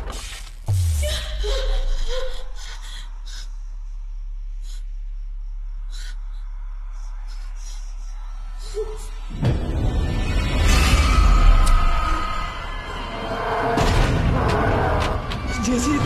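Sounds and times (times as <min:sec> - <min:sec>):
steady low drone: 0:00.7 - 0:16.0.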